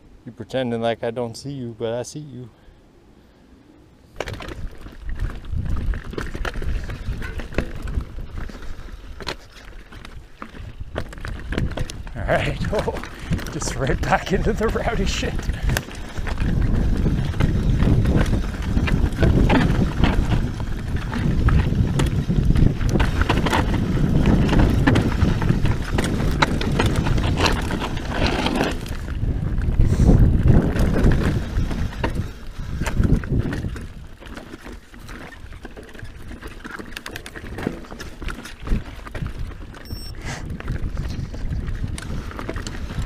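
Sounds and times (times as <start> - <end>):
tyres on loose rock: 4.2 - 39.7
bike chain and frame rattling: 4.2 - 40.0.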